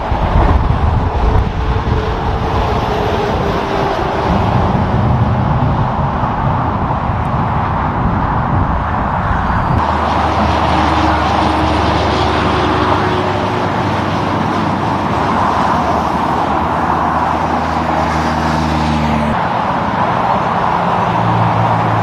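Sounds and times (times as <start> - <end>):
garbage truck diesel engine: 0.0 - 22.0
highway traffic passing: 0.0 - 22.0.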